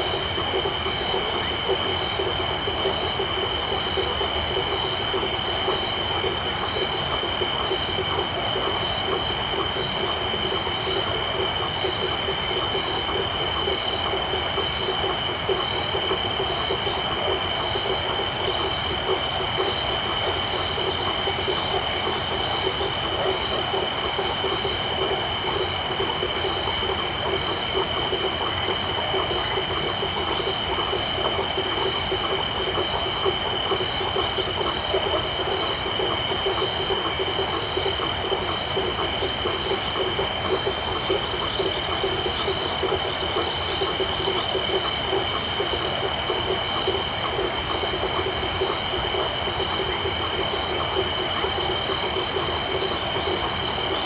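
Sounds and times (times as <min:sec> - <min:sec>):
crickets trilling: 0:00.0 - 0:54.0
frog chorus: 0:00.0 - 0:54.0
pulsing insect calls: 0:00.0 - 0:54.0.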